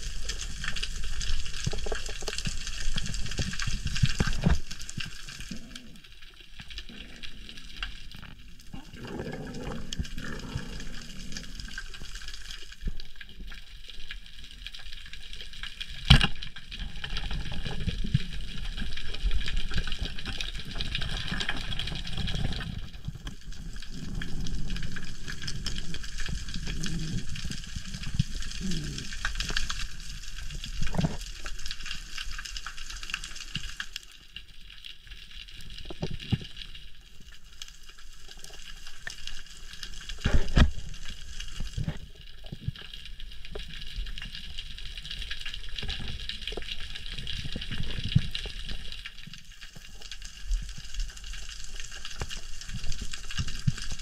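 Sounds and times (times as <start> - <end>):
faint steady crackle: 0.0 - 54.0.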